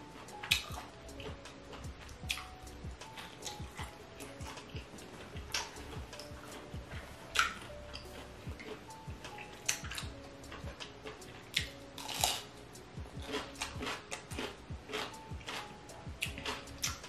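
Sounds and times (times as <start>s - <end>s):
wet chewing clicks and smacks: 0.3s - 6.7s, 7.3s - 12.4s, 13.2s - 17.0s.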